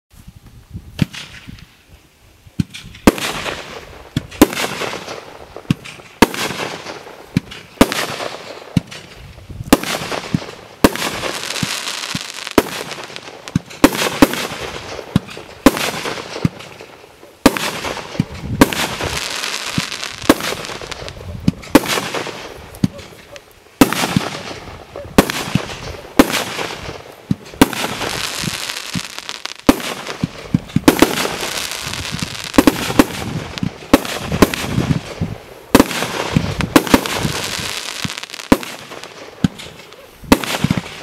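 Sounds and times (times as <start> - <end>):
fireworks reports with hiss: 0.1 - 41.0
small firework pops: 1.0 - 1.7, 2.6 - 41.0.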